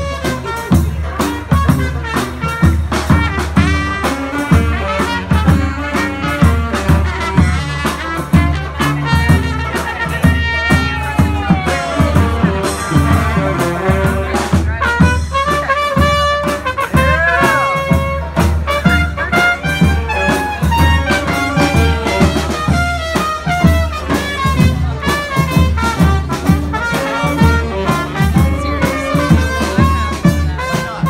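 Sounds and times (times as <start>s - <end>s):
brass band playing: 0.0s - 31.0s
drum beat: 0.0s - 31.0s.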